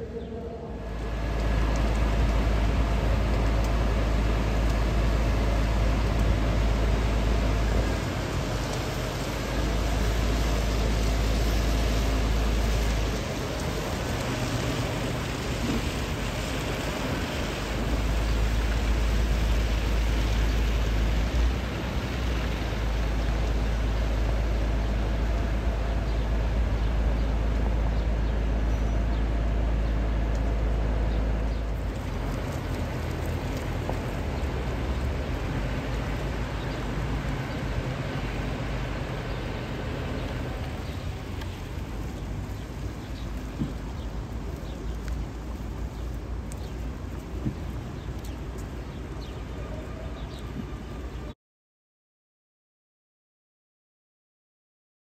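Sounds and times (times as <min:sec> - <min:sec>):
rain and tyres hissing: 0:00.0 - 0:51.3
bus engine rumble: 0:00.0 - 0:51.4.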